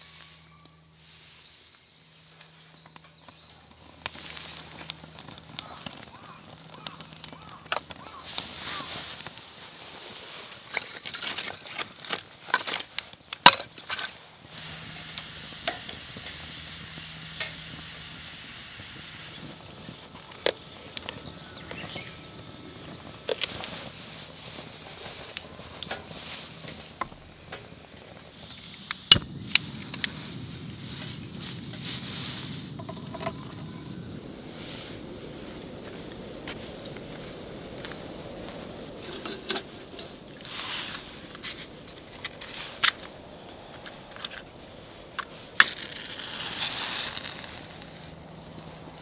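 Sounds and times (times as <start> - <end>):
twig fire crackling and popping: 2.3 - 49.0.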